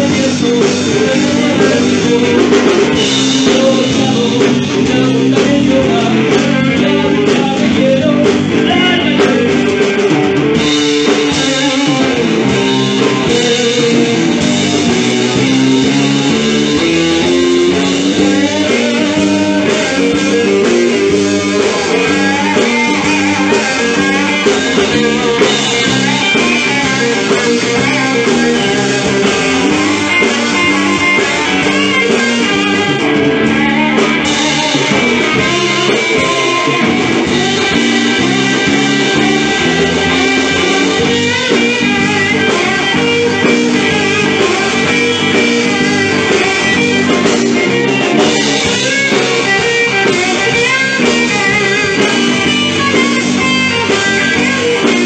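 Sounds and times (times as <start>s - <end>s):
bass guitar: 0.0s - 55.0s
blues-rock band playing: 0.0s - 55.0s
drum kit: 0.0s - 55.0s
electric guitar: 0.0s - 55.0s.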